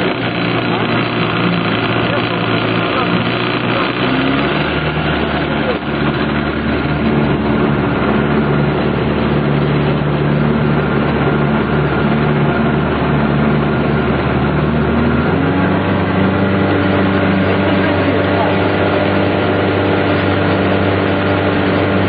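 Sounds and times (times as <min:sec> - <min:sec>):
engine running: 0:00.0 - 0:22.0
noisy hum: 0:00.0 - 0:22.0.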